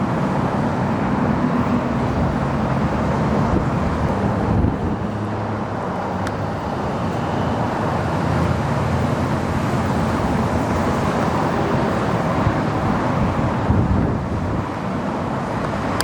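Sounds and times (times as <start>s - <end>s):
wind rumbling on microphone: 0.0s - 7.0s, 7.6s - 16.0s
freeway traffic: 0.0s - 16.0s.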